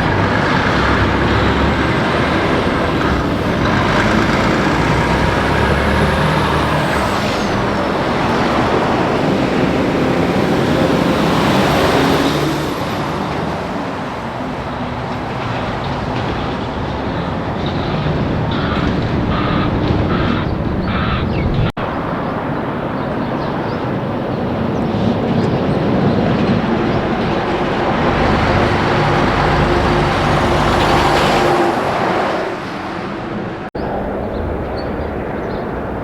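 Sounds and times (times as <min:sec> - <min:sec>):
heavy trucks passing: 0:00.0 - 0:36.0.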